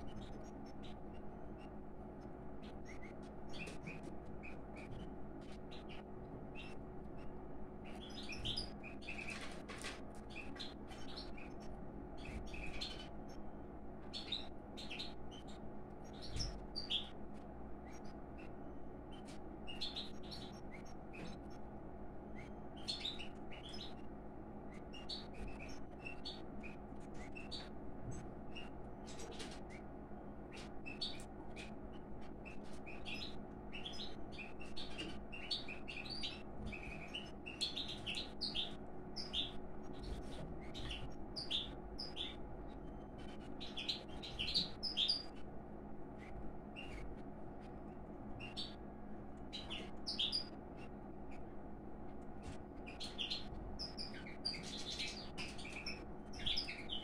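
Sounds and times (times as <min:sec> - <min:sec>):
birds chirping: 0:00.0 - 0:57.0
faint steady hum: 0:00.0 - 0:57.0.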